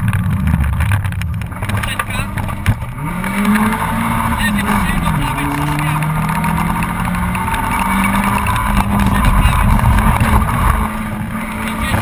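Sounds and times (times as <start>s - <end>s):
car engine under load: 0.0s - 12.0s
road and tyre rumble: 0.0s - 12.0s.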